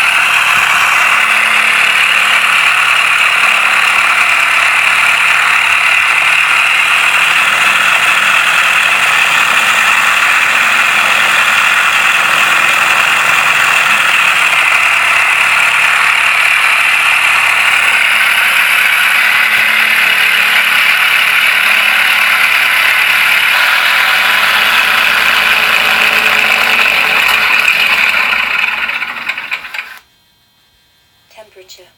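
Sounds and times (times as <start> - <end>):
simulated radial engine: 0.0 - 30.0.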